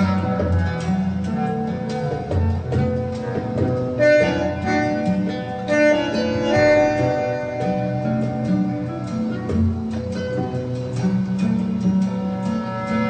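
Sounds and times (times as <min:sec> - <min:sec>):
acoustic instrumental music: 0:00.0 - 0:13.0.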